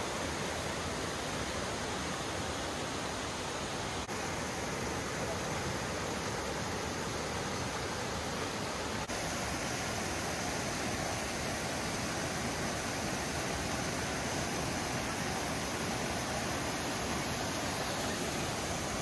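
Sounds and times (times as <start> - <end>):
creek rushing over rocks: 0.0 - 19.0.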